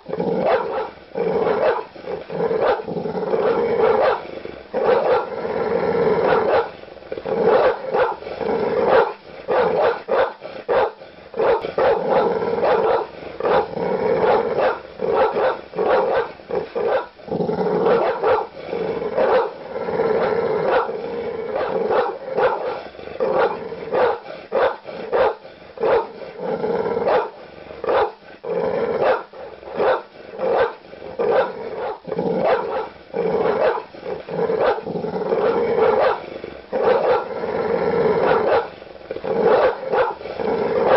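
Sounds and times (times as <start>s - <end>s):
large dogs barking aggressively: 0.0s - 40.9s.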